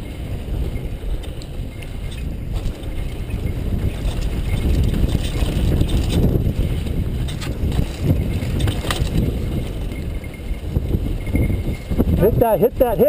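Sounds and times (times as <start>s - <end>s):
bike clacking over bumps: 0.0s - 12.2s
bike tyre and drivetrain rattle: 0.0s - 13.0s
wind rumbling over microphone: 0.0s - 13.0s.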